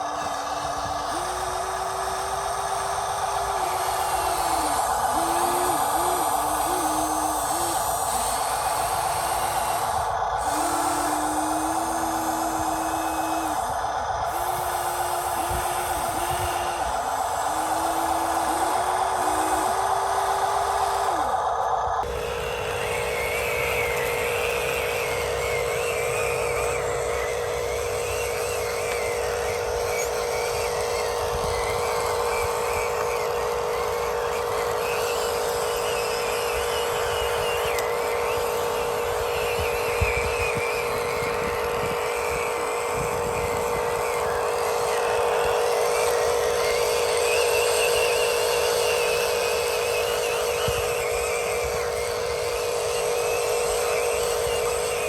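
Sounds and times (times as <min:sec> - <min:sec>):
small electric motors whining: 0:00.0 - 0:55.0.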